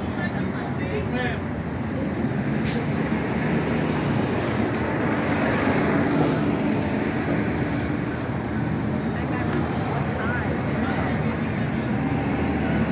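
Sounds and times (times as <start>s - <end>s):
vehicle rumble and hiss: 0.0s - 12.9s.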